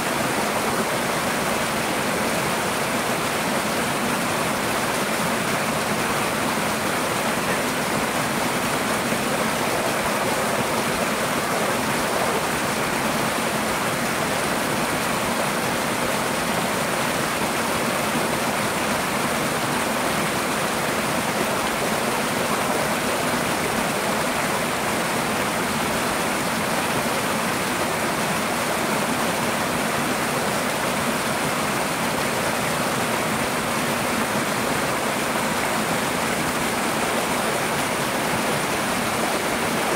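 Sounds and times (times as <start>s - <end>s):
waterfall splashing over rocks: 0.0s - 39.9s.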